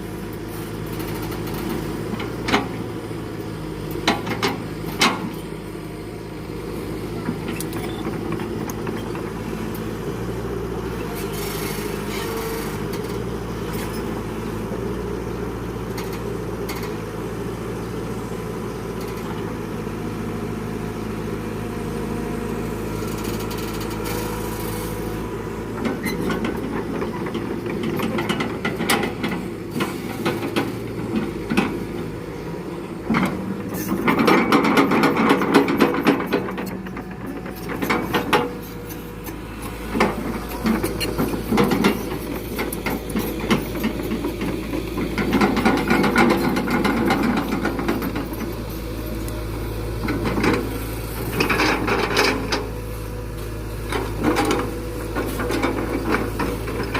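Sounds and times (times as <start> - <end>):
excavator engine running: 0.0 - 56.9.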